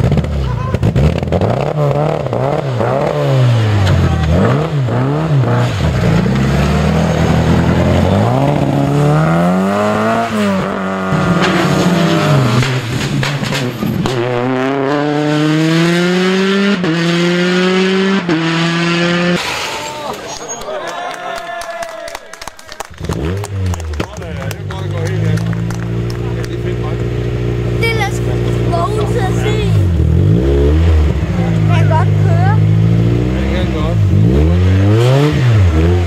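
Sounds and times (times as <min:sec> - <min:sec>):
rally car accelerating through gears: 0:00.0 - 0:19.6, 0:23.0 - 0:28.9, 0:29.7 - 0:36.0
rally car engine revving: 0:00.0 - 0:20.2, 0:22.8 - 0:36.0.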